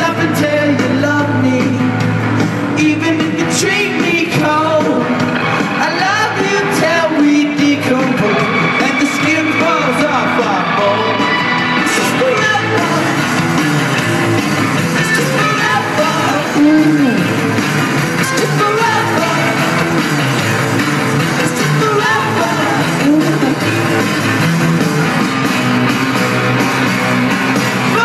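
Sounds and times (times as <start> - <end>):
person singing: 0.0 - 13.8, 14.8 - 20.6, 21.2 - 24.0, 27.8 - 28.0
live rock band playing: 0.0 - 28.0.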